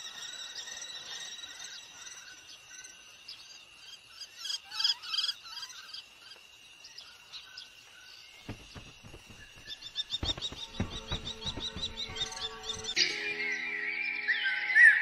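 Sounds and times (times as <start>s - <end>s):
high insect drone: 0.0s - 13.0s
small birds chirping: 0.0s - 14.3s.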